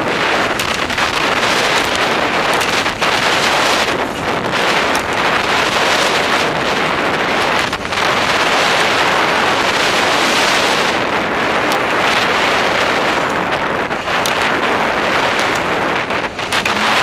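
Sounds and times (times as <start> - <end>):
skis on snow: 0.0 - 17.0
wind rushing on microphone: 0.0 - 17.0.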